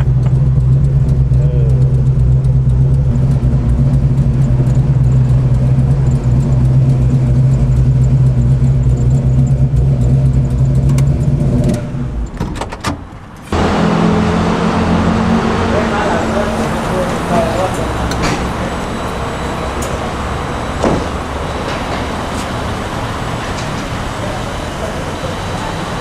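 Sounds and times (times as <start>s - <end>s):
vee-eight engine running: 0.0s - 12.5s, 13.4s - 26.0s.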